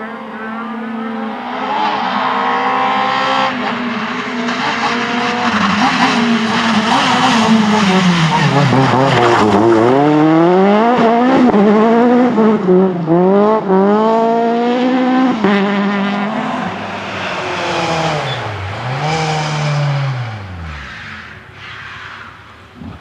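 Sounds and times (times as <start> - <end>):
rally car engine revving: 0.0 - 21.6.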